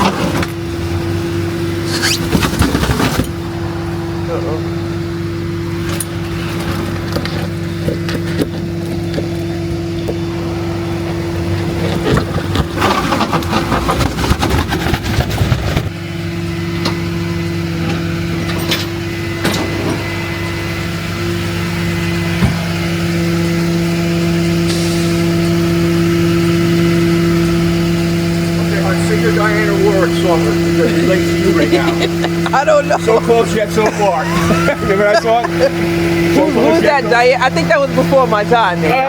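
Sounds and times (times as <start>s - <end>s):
car engine hum from inside: 0.0s - 39.0s
rough rumble with knocks and rattles: 0.0s - 39.0s.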